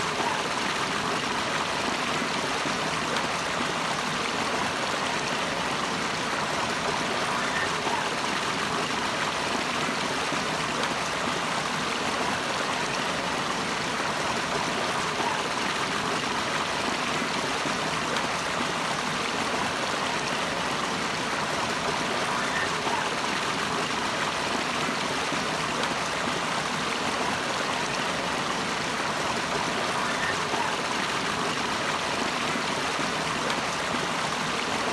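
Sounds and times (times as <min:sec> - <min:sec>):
running water rushing: 0:00.0 - 0:34.9.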